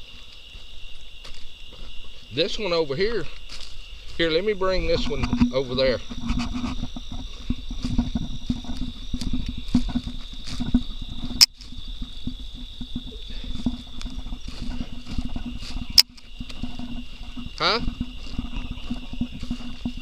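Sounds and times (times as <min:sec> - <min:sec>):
dragging through dry grass: 0:00.0 - 0:20.0
footsteps in grass: 0:00.0 - 0:20.0
insect trill: 0:00.0 - 0:20.0.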